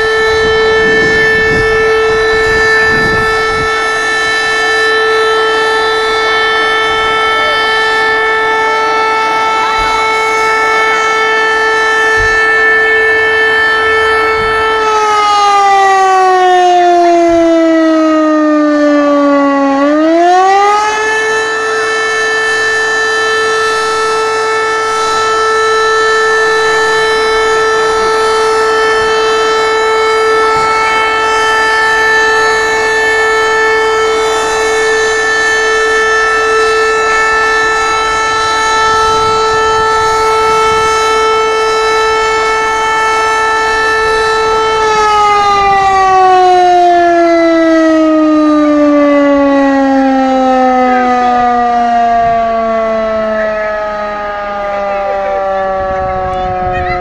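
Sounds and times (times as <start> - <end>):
fire station siren: 0.0 - 57.0.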